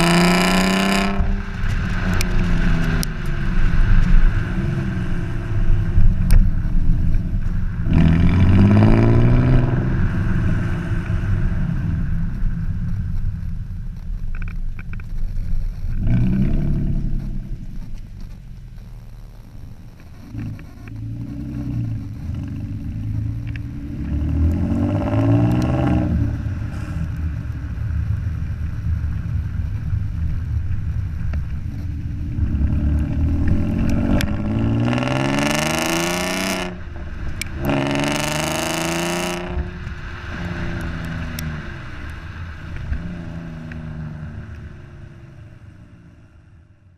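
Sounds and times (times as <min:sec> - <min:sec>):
car engine revving: 0:00.0 - 0:46.8
exhaust rush: 0:00.0 - 0:46.9.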